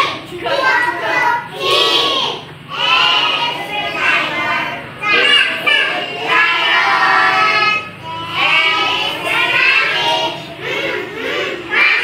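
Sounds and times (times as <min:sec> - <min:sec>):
children chanting together: 0:00.0 - 0:12.0.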